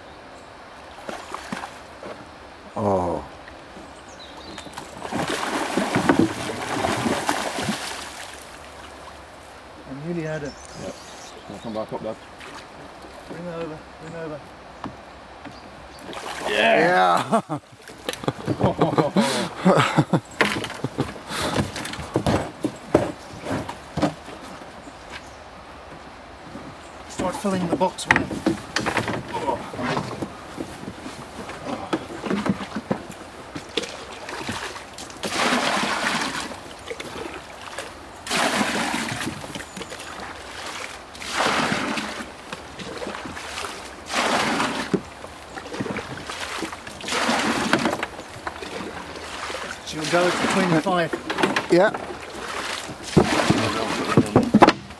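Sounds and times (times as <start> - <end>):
water splashing and sloshing: 0.7 - 2.6, 3.4 - 54.9.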